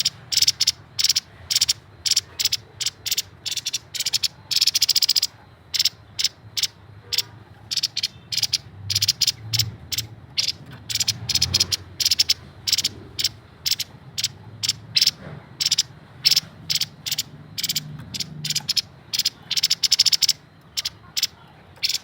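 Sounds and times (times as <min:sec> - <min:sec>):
bird calling high-pitched notes: 0:00.0 - 0:22.0.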